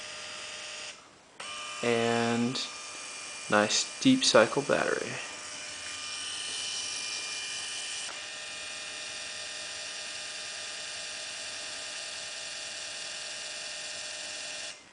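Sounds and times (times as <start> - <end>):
electric actuator motor whirring: 0.0 - 14.9.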